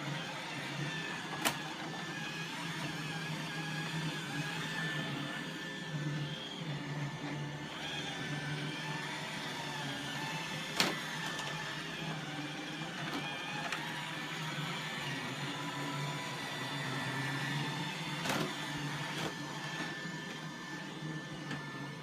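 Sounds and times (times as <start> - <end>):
robot vacuum humming: 0.0 - 22.0.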